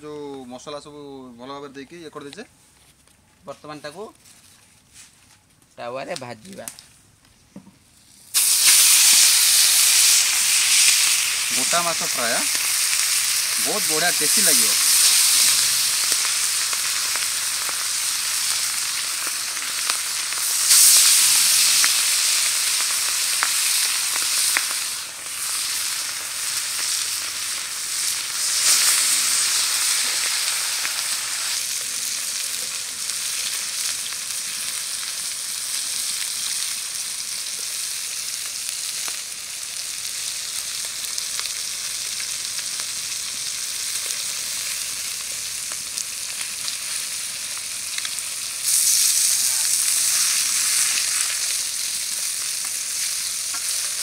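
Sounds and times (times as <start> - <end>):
fish sizzling in oil: 8.0 - 54.0.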